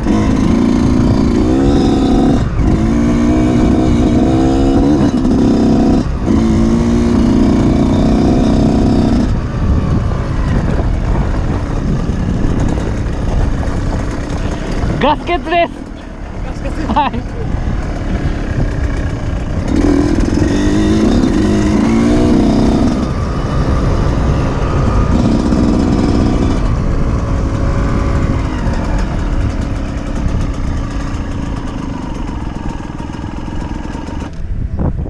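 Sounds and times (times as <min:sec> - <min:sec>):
motorcycle engines revving: 0:00.0 - 0:34.9.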